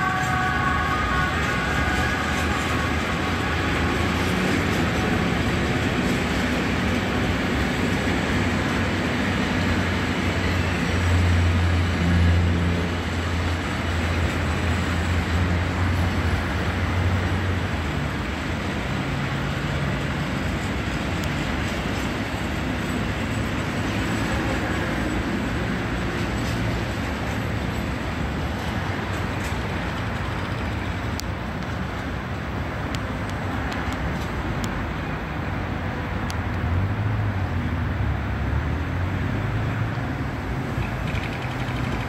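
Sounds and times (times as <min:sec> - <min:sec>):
freight train wheels rumbling on rail: 0:00.0 - 0:42.0.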